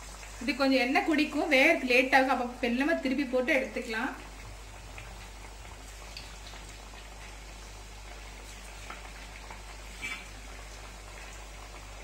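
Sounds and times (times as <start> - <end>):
deep-frying oil sizzling: 0.0 - 12.0.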